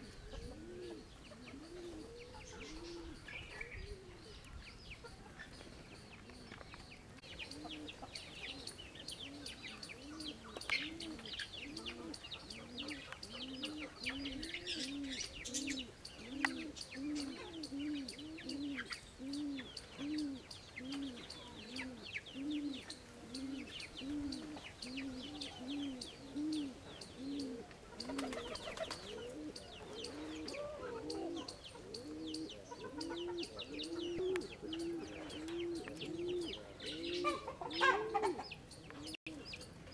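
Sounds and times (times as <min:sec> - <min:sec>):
birds chirping high: 0:00.0 - 0:39.9
pigeons cooing: 0:00.0 - 0:39.9.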